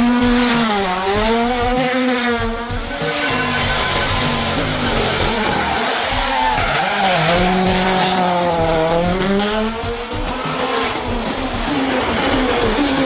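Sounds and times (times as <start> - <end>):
rally car engine under load: 0.0 - 13.0.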